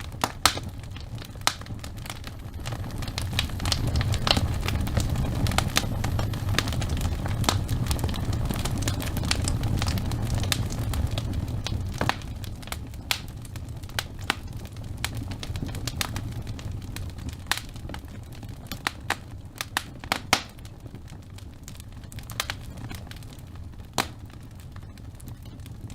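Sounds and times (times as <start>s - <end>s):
low rumble of flame: 0.0s - 25.9s
wood fire crackling: 0.0s - 25.9s.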